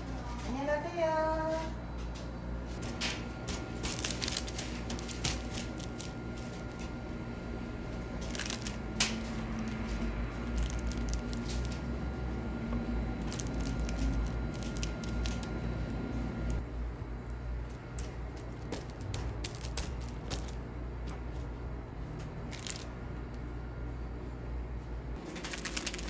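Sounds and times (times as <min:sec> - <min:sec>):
dough peeling: 0:02.8 - 0:12.5, 0:13.1 - 0:24.4.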